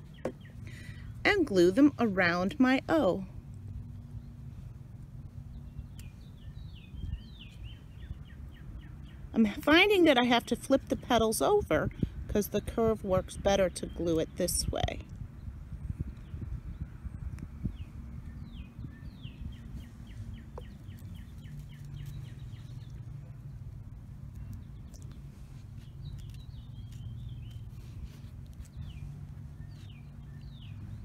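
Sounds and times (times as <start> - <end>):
songbirds chirping: 0.0 - 31.0
steady low rumble: 0.0 - 31.0.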